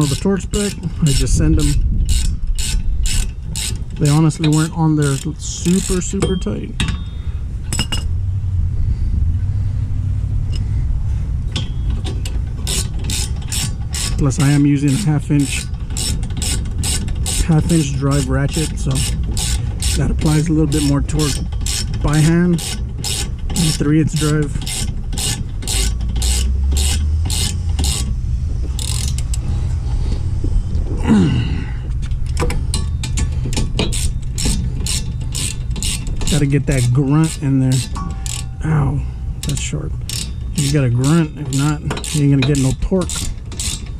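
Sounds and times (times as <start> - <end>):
ratchet clicks: 0.0 - 7.1, 11.5 - 29.5, 32.1 - 38.7, 39.4 - 43.9
low rumble: 5.8 - 14.6, 15.2 - 41.8.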